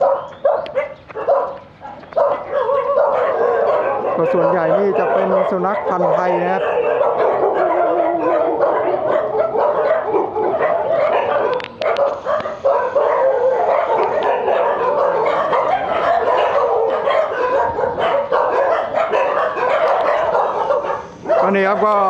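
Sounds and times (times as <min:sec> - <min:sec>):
dogs barking: 0:00.0 - 0:22.0.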